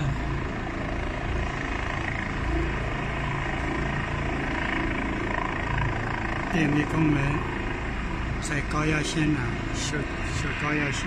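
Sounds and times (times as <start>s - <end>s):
distant helicopter hovering: 0.0s - 11.0s.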